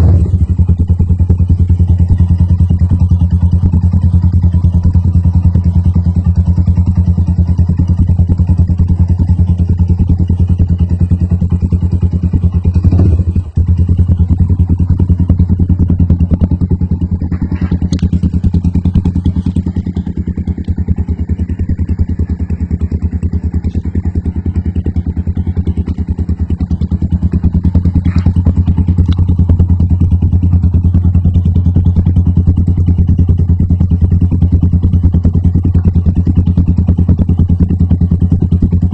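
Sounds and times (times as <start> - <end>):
motorcycle idling: 0.0 - 38.9.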